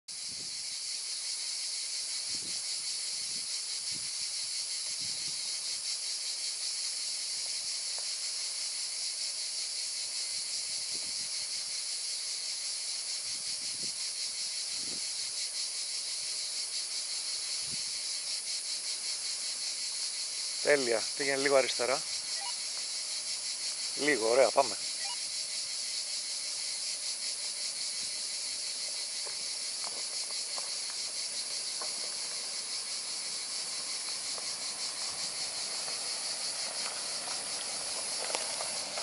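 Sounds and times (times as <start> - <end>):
cicadas buzzing: 0.1 - 39.0.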